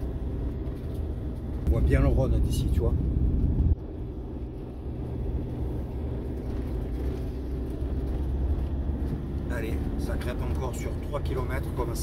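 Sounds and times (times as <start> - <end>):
motorhome engine climbing: 0.0 - 12.0
road noise inside cab: 0.0 - 12.0.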